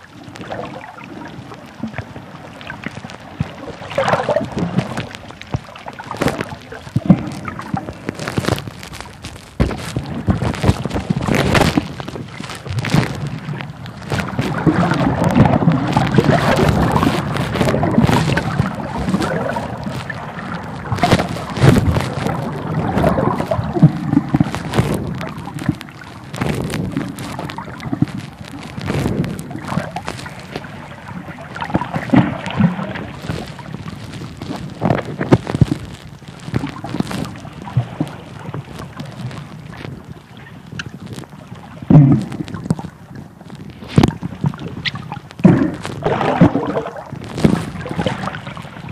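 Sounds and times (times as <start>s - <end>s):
underwater sloshing and gurgling: 0.0s - 48.9s.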